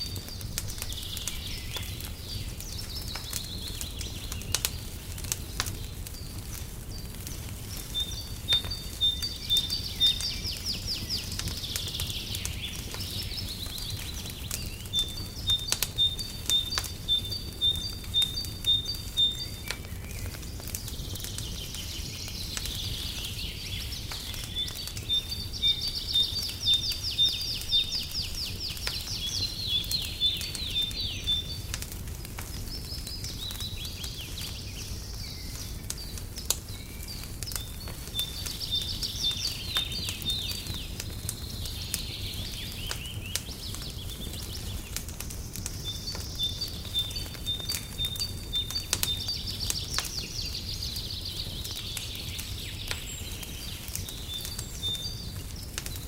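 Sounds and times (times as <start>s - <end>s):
birdsong chirps and trills: 0.0s - 56.0s
fireplace crackling and popping: 0.0s - 56.0s
low fire rumble: 0.0s - 56.0s.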